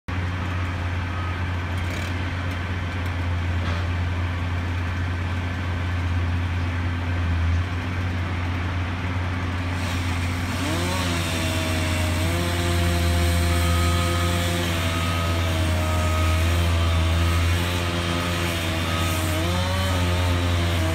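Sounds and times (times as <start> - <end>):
engine droning: 0.1 - 20.9.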